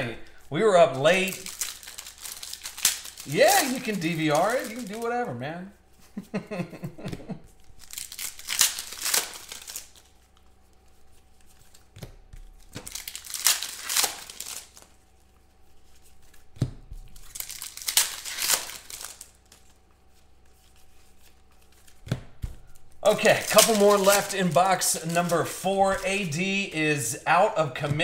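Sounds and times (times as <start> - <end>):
foil wrappers tearing and crinkling: 0.2 - 5.4, 7.6 - 11.9, 12.5 - 22.0, 22.7 - 27.0.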